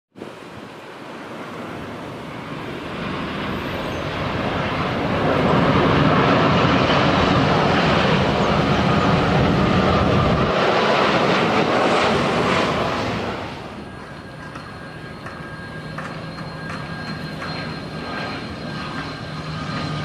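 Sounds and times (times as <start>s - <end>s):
jet engines rushing: 0.2s - 20.0s.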